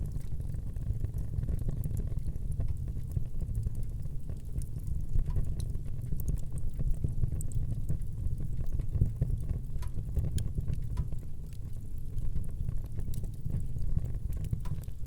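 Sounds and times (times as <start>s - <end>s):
fire crackles and pops: 0.0s - 15.0s
low rumble of flames: 0.0s - 15.0s.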